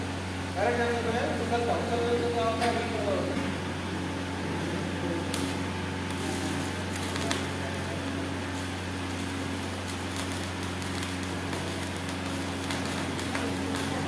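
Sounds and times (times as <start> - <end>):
low electrical hum: 0.0 - 14.0
welding arc crackling: 0.0 - 14.0.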